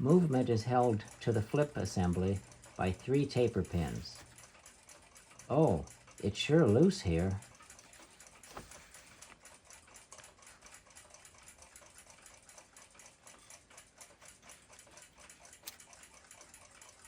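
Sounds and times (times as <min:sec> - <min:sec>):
clock ticking: 0:00.0 - 0:17.0
sharp clock click: 0:00.0 - 0:17.0.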